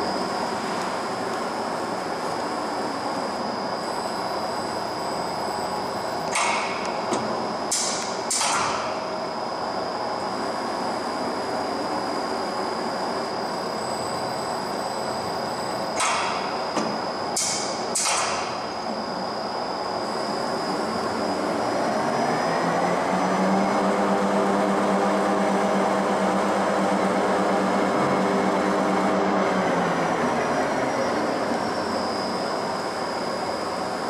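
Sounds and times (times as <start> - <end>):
lathe humming with high whine: 0.0 - 34.0.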